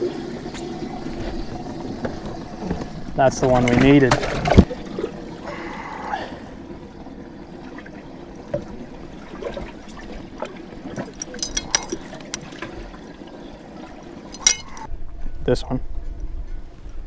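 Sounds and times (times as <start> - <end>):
water trickling and splashing: 0.0 - 14.9.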